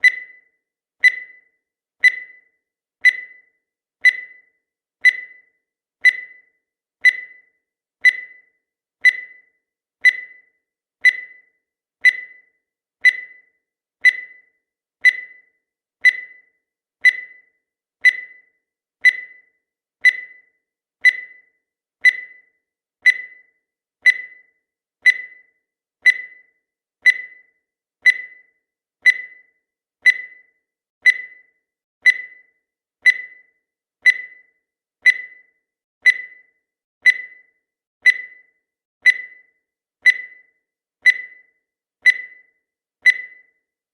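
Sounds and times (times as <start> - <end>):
countdown timer ticking: 0.0 - 43.7.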